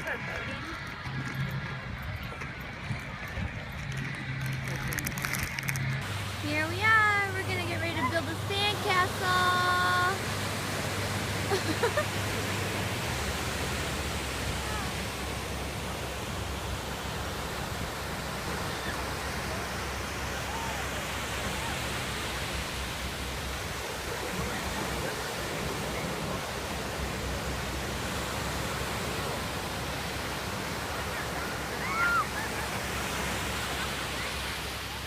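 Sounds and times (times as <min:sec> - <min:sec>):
ocean surf rushing: 0:00.0 - 0:35.0.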